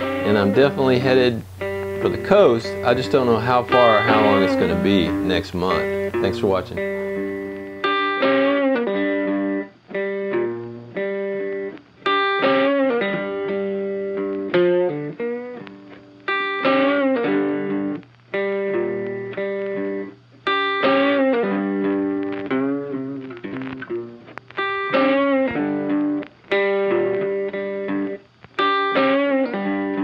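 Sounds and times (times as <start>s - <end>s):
guitar with effects melody: 0.0s - 30.0s.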